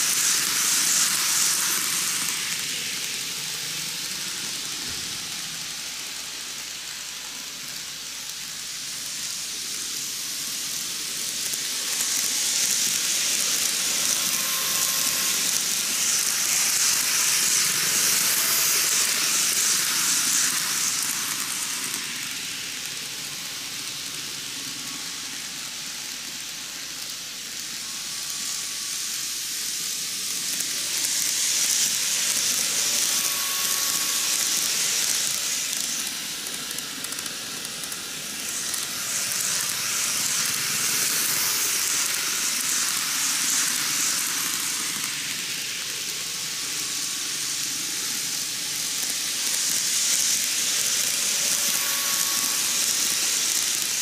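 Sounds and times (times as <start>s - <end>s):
model train wheels clattering on rail: 0.0s - 54.0s.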